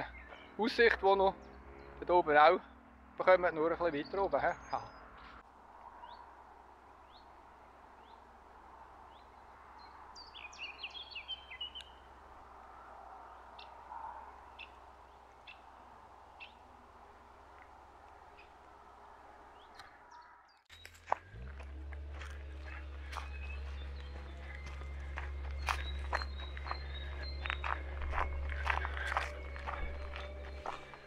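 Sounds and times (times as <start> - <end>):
birds twittering: 0.0 - 6.4, 7.0 - 31.0
birds chirping: 0.0 - 31.0.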